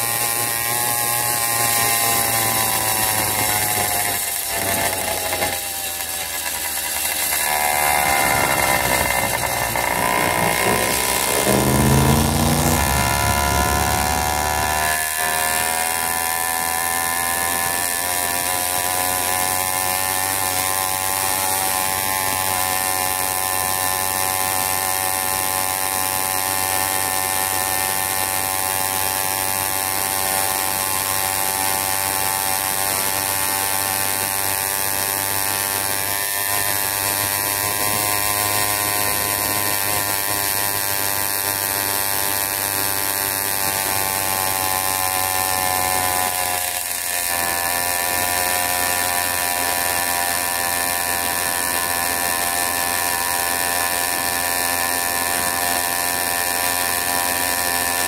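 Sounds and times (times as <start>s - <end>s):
small engine running steadily: 0.0s - 58.0s.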